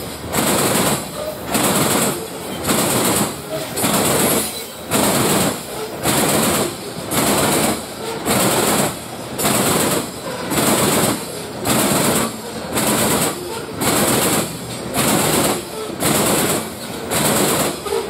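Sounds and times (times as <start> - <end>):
freight train cars rolling past: 0.0 - 18.0.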